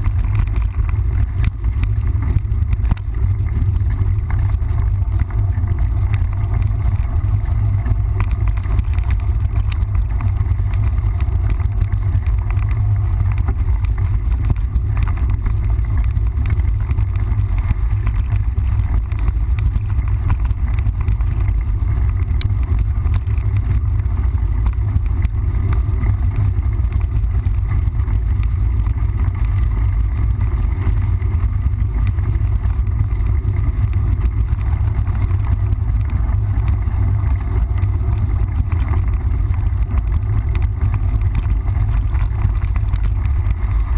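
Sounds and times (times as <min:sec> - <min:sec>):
bike tyres rolling on trail: 0:00.0 - 0:43.9
wind rumble on microphone: 0:00.0 - 0:43.9.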